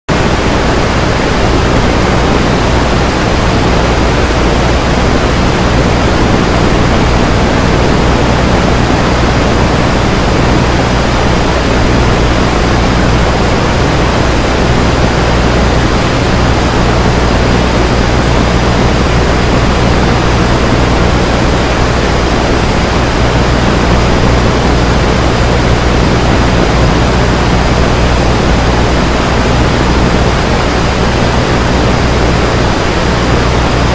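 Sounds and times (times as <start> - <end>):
low hum: 0.1 - 33.9
radio static hiss: 0.1 - 33.9.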